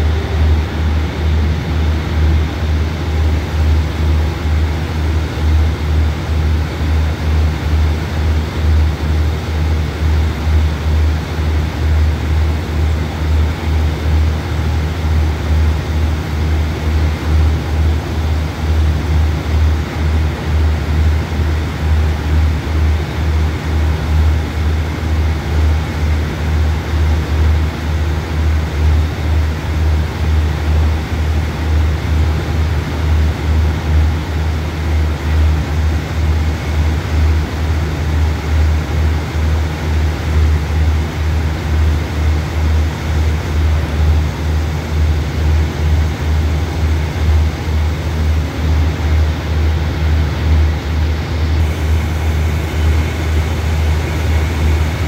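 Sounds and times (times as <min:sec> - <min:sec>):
train engine idling: 0:00.0 - 0:55.0.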